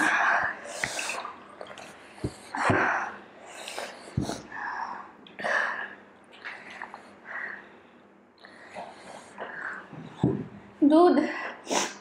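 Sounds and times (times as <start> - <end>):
person breathing hard: 0.0 - 10.2.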